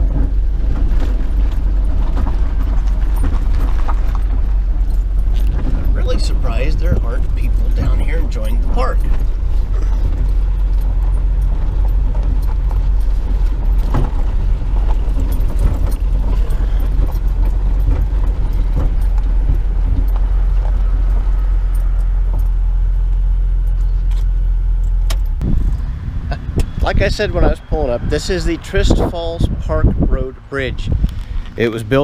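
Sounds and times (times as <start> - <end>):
small rattles and jingles: 0.0 - 25.8
engine and road drone: 0.0 - 32.0.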